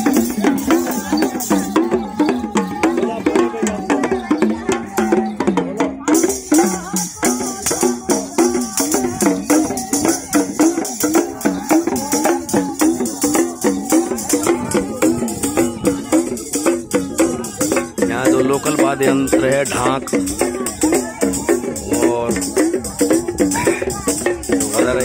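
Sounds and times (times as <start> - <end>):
person singing folk song: 0.0 - 25.0
rapid drum beat: 0.0 - 25.0.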